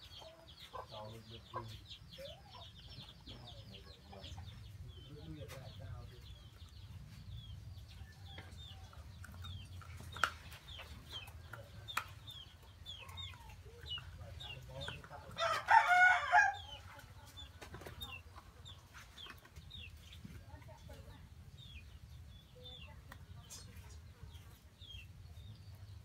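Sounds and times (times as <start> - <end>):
chicks peeping and chirping: 0.0 - 26.0.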